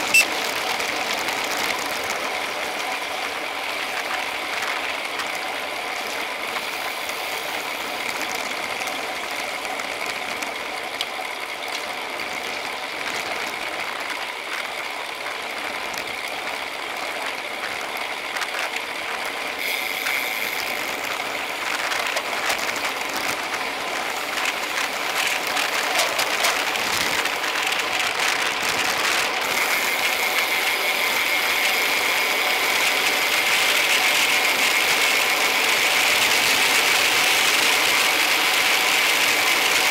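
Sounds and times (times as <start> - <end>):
bicycle freehub ticking: 0.0 - 39.9
wind and tyre noise: 0.0 - 39.9.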